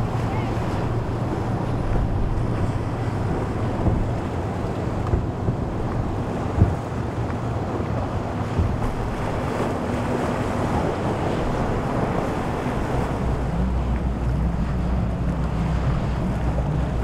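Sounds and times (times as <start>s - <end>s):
motorboat engines humming: 0.0s - 17.0s
waves rushing: 0.0s - 17.0s
wind buffeting microphone: 0.0s - 17.0s.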